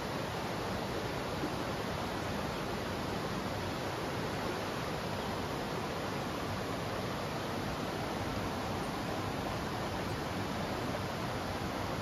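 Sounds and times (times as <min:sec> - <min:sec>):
river flowing over rocks: 0:00.0 - 0:12.0.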